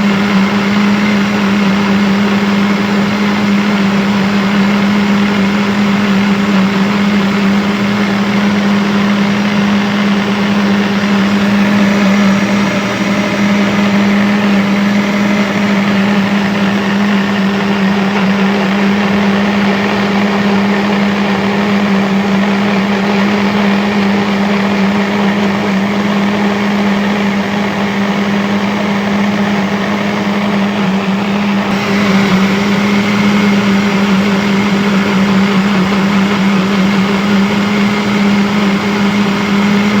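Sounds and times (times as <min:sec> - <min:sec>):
electric blender running: 0:00.0 - 0:40.0.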